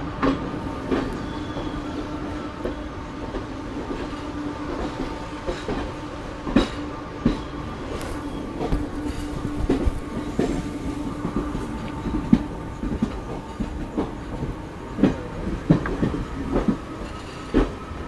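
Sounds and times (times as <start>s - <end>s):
low hum of moving train: 0.0s - 18.0s
train wheels clattering over joints: 2.7s - 18.0s.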